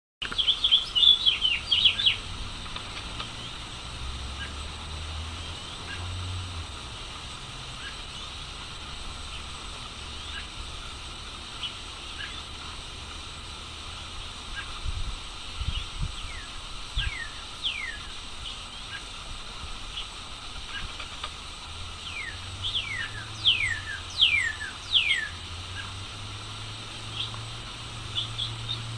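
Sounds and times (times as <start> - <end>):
steady hiss: 0.2 - 28.9.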